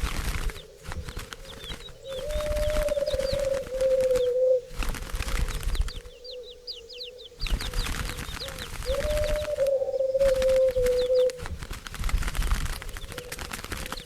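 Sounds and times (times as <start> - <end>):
rustling noise: 0.0 - 6.4, 7.4 - 14.0
small birds chirping: 0.0 - 14.0
turtle dove purring: 0.0 - 14.0.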